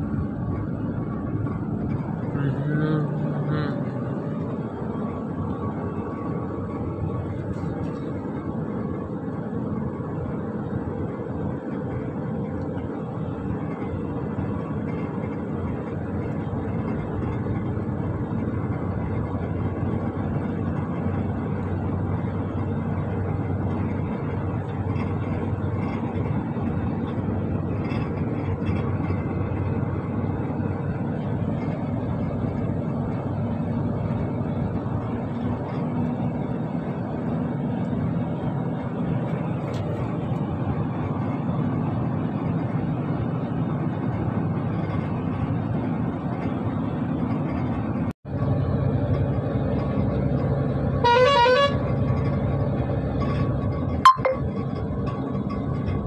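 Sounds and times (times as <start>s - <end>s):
diesel truck engine droning: 0.0s - 56.0s
road noise: 0.0s - 56.0s.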